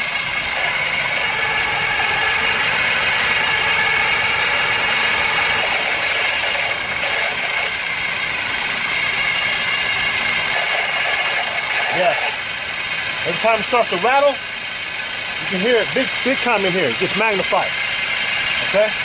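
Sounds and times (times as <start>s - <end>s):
alternator noise: 0.0s - 19.0s
car engine idling: 0.0s - 19.0s.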